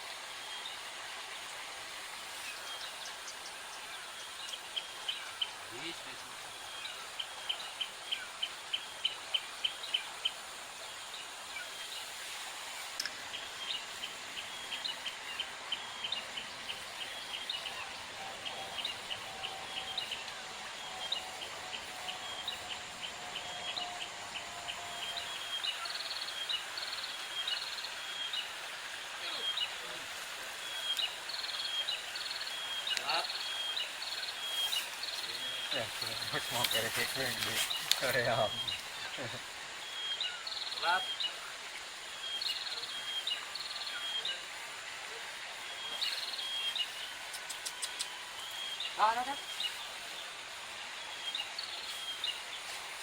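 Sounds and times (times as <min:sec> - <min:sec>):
steady outdoor hiss: 0:00.0 - 0:53.0.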